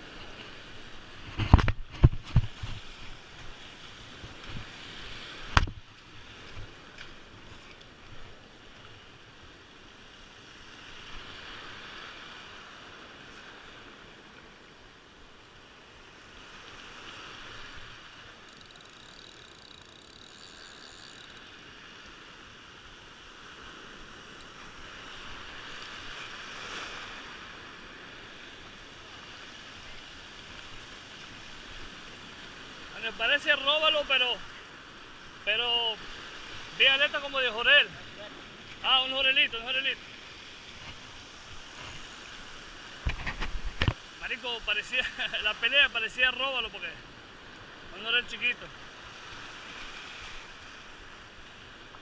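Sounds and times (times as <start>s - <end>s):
surf washing over pebbles: 0.0s - 18.5s, 21.4s - 52.0s.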